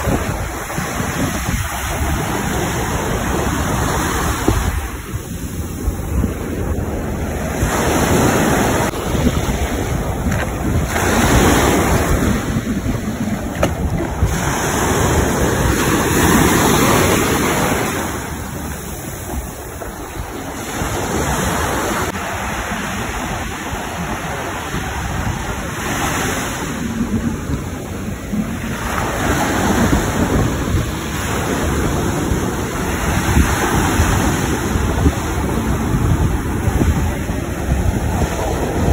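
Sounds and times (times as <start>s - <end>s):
ocean waves breaking: 0.0s - 38.9s
wind rumbling on microphone: 0.0s - 38.9s.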